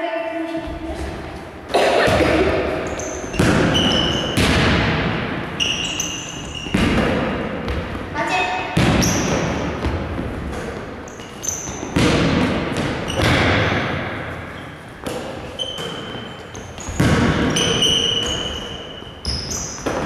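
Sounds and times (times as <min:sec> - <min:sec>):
balls thudding in echoing hall: 0:00.0 - 0:20.0.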